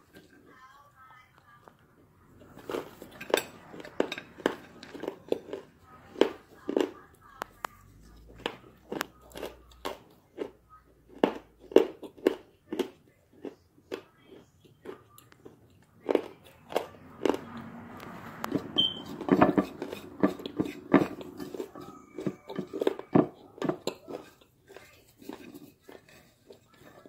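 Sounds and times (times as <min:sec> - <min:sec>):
person crunching food: 0:02.4 - 0:27.0.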